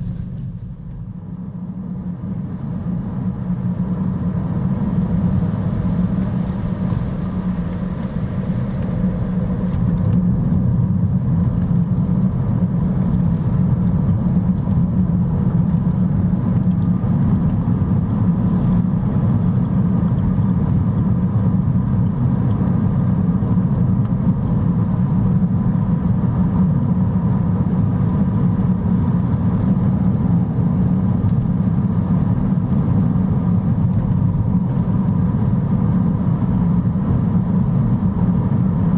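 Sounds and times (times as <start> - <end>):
road and tyre rumble: 0.0 - 38.9.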